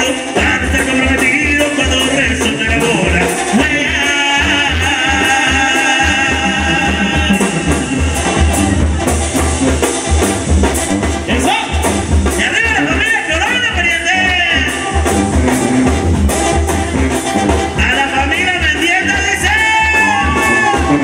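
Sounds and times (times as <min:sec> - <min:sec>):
brass band playing: 0:00.0 - 0:21.0
sousaphone bass line: 0:00.0 - 0:21.0.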